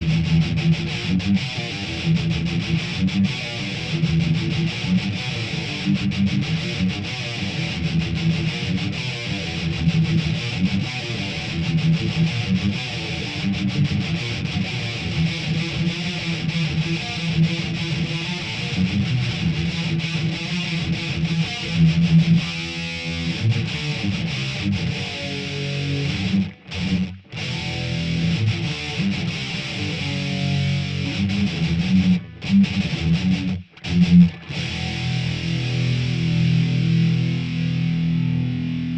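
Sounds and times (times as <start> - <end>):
distorted electric guitar riff: 0.0 - 38.9.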